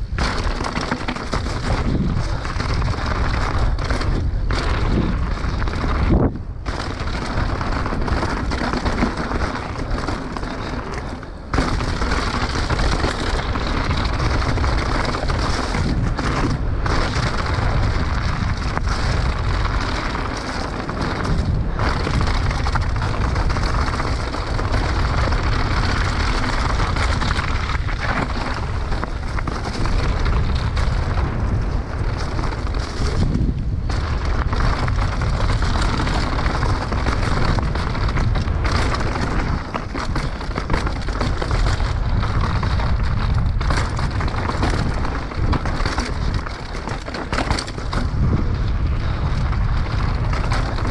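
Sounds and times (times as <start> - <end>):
bike frame rattling: 0.0 - 50.9
tyres rumbling on dirt and stones: 0.0 - 50.9.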